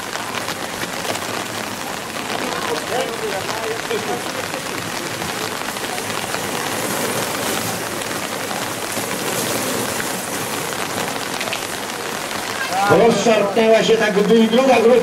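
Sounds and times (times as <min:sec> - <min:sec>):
rain on wet road: 0:00.0 - 0:15.0.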